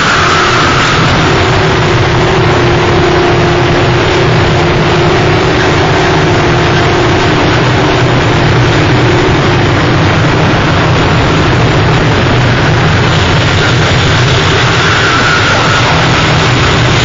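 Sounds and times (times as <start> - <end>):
harsh distorted noise music: 0.0 - 17.0
low drone and hum: 0.0 - 17.0.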